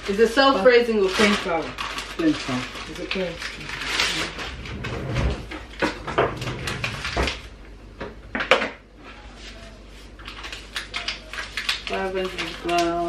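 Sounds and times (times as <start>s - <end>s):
plastic bag rustling and crinkling: 0.0s - 7.5s, 9.4s - 13.0s.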